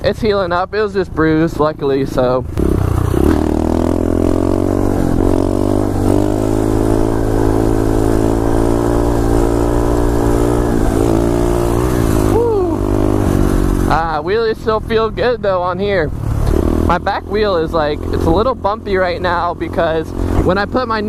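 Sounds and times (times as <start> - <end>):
motorbike engine revving: 1.2 - 21.0.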